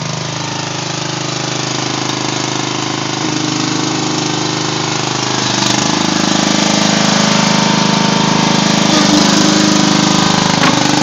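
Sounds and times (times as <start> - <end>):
small engine running loudly: 0.0 - 11.0.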